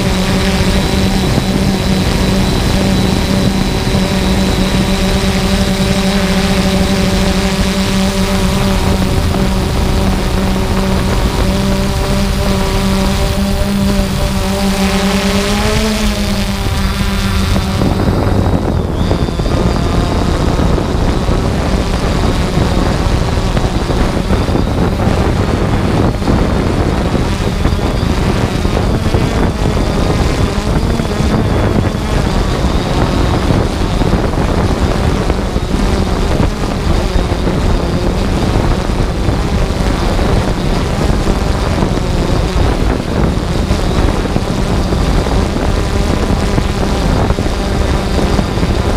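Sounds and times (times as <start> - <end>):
drone propellers whining: 0.0 - 48.9
wind noise on microphone: 0.0 - 48.9.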